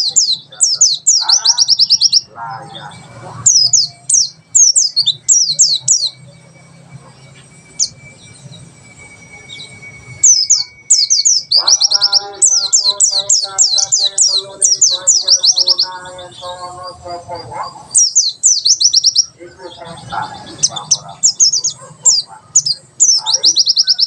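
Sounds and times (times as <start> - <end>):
bird singing whistled runs: 0.0 - 16.9, 17.6 - 24.0
lower stuttering bird chatter: 0.0 - 24.0.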